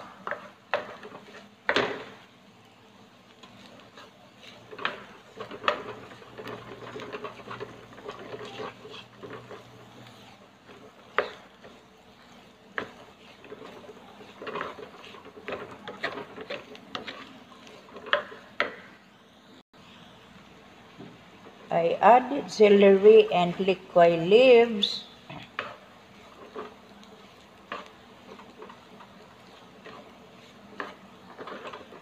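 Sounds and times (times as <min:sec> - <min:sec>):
spatula scraping frying pan: 0:00.0 - 0:02.4, 0:03.1 - 0:18.8, 0:21.4 - 0:32.0.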